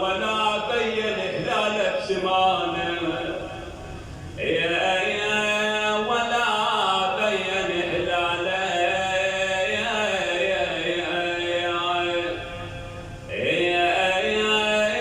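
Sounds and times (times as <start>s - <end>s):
man chanting a mourning lament: 0.0s - 15.0s
steady low drone: 0.0s - 15.0s.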